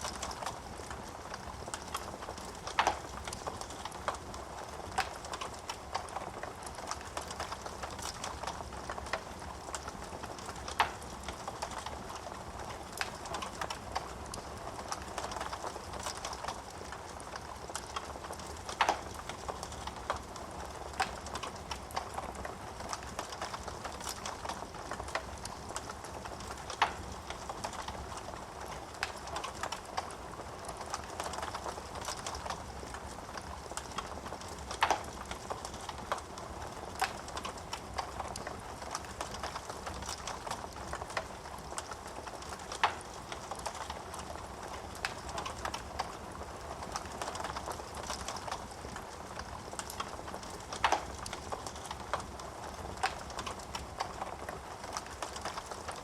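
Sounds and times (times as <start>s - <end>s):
burning logs popping: 0.0s - 56.0s
wood fire crackling: 0.0s - 56.0s.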